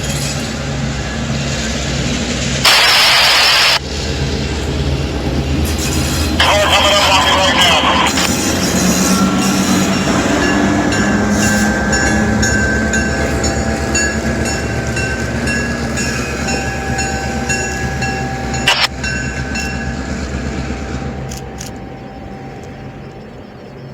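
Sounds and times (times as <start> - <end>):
diesel locomotive passing: 0.0 - 23.9.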